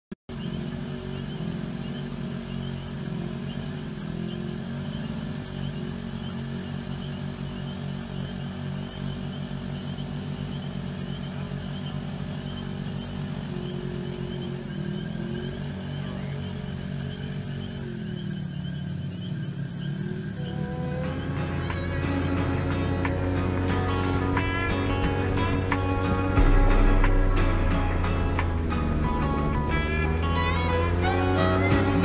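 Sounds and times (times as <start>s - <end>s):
utility vehicle engines running: 0.3s - 32.0s.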